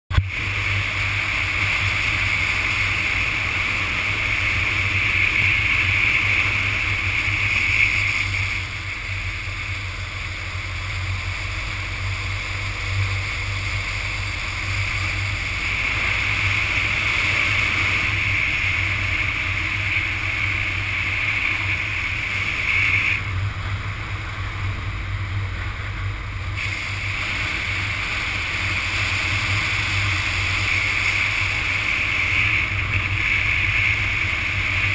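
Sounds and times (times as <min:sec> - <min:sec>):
motorcycle engine hum: 0:00.1 - 0:34.9
rushing wind noise: 0:00.1 - 0:34.9.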